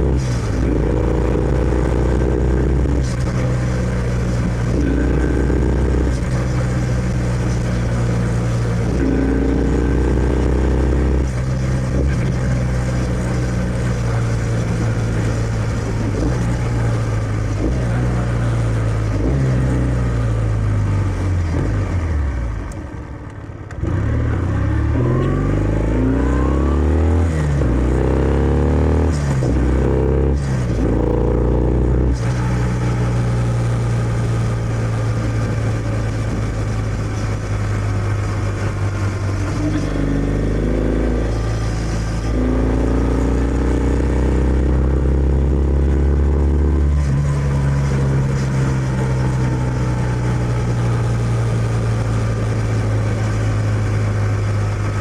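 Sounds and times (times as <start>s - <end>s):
motorcycle engine while riding: 0.0s - 55.0s.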